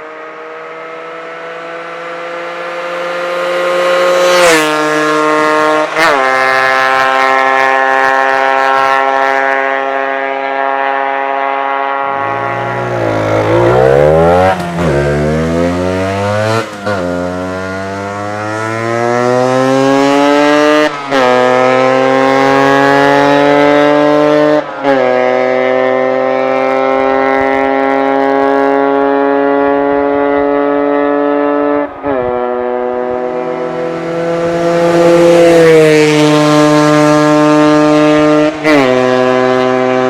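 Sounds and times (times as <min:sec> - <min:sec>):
two-stroke motorcycle engine accelerating: 0:00.0 - 0:40.0.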